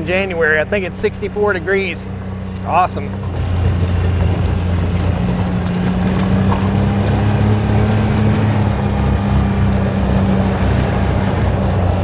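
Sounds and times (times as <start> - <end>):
rumble of vehicle on rough ground: 0.0 - 12.0
utility vehicle engine droning: 0.0 - 12.0.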